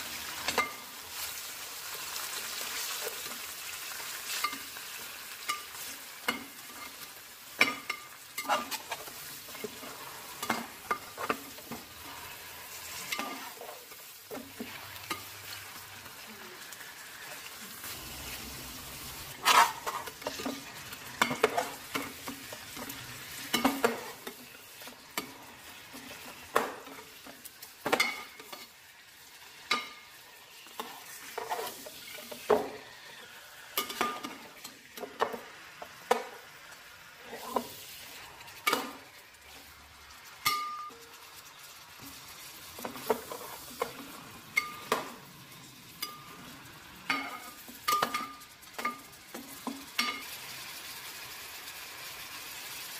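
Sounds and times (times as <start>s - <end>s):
meat sizzling in hot oil: 0.0s - 52.9s.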